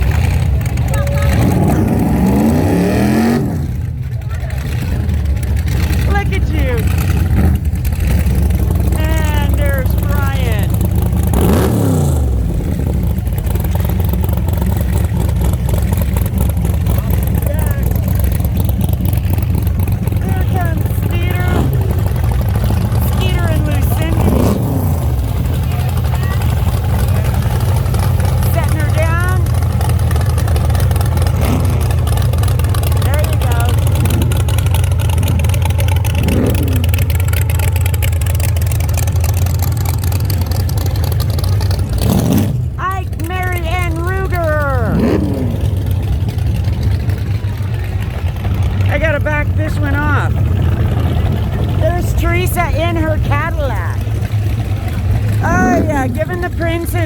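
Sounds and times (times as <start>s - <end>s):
car engine revving: 0.0s - 57.0s
low pulsing exhaust rumble: 0.0s - 57.0s.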